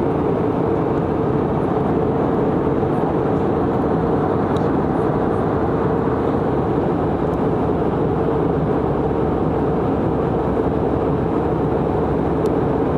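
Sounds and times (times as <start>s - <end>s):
airliner cabin noise: 0.0s - 12.9s
constant hum: 0.0s - 12.9s.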